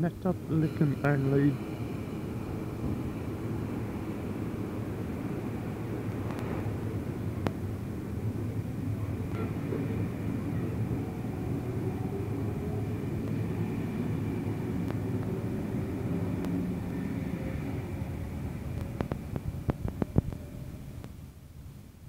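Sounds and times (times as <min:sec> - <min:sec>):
train wheels and motors rumbling: 0:00.0 - 0:21.8.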